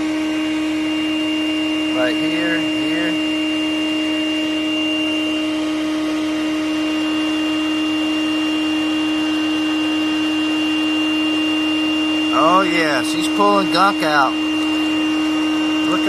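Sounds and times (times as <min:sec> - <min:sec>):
shop vac whining and hissing: 0:00.0 - 0:16.0.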